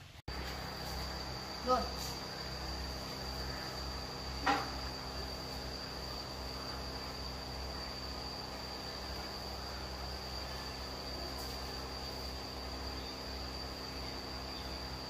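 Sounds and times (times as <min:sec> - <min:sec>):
low steady hum: 0:00.0 - 0:15.0
insect trilling: 0:00.3 - 0:15.0.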